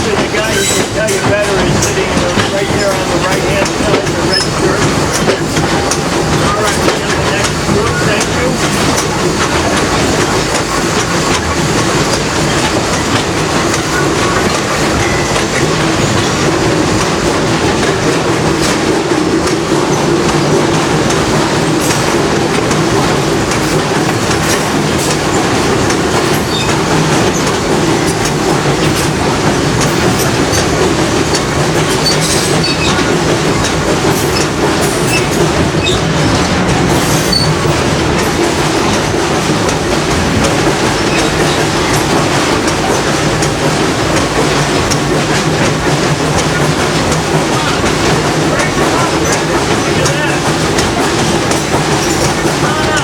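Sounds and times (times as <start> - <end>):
train clickety-clack: 0.0 - 53.0
train wheels rumbling: 0.0 - 53.0.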